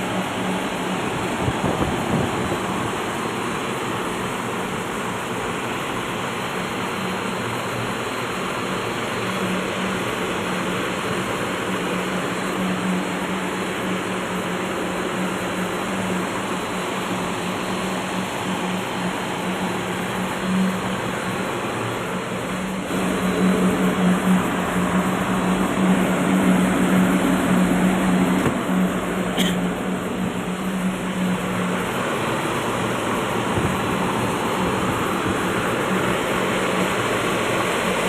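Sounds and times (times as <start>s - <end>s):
diesel generator running: 0.0s - 38.0s.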